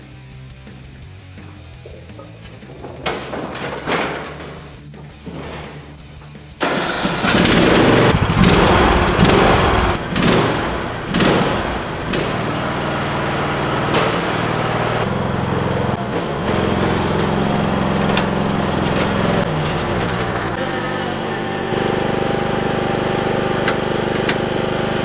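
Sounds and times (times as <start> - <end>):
lawn tractor engine running: 1.7 - 25.0.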